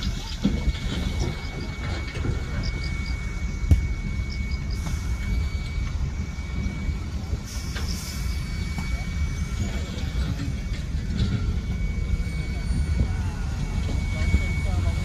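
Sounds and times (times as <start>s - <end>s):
dump truck engine rumble: 0.0s - 15.0s
faint high whine: 0.0s - 15.0s.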